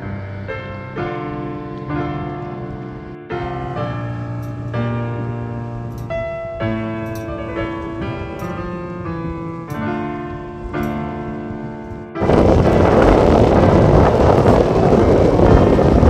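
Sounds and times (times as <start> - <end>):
keyboard sustained chords: 0.0 - 16.0.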